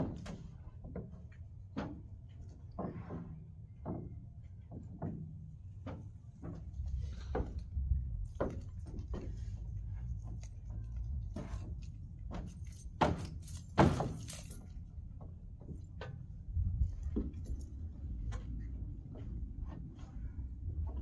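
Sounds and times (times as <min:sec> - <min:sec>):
knocks and clunks: 0:00.0 - 0:20.1
low steady rumble: 0:00.0 - 0:21.0.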